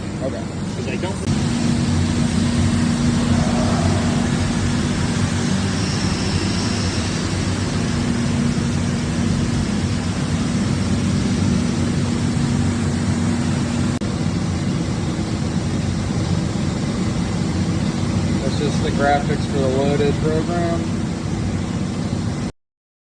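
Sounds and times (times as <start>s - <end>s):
machine hum with low tone: 0.0s - 22.5s.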